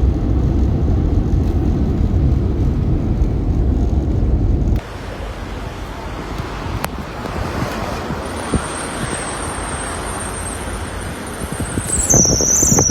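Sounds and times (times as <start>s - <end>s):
high-pitched whine: 0.0s - 12.9s
wind on microphone: 0.0s - 12.9s.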